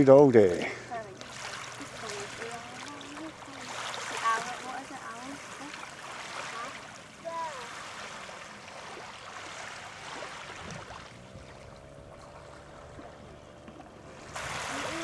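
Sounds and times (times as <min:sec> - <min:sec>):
small waves washing at shore: 0:00.0 - 0:15.0.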